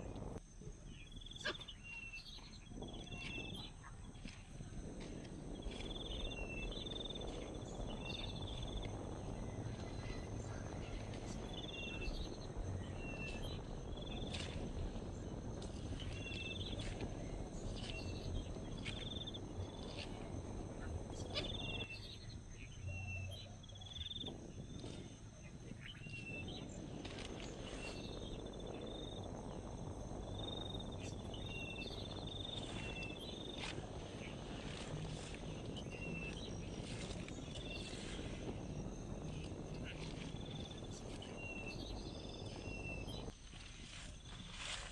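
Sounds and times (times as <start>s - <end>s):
steady low rumble: 0.0s - 1.3s, 2.3s - 44.9s.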